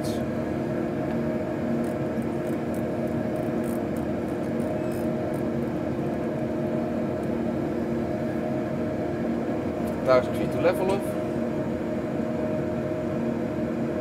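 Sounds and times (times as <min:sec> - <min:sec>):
jet engine and airflow drone: 0:00.0 - 0:14.0.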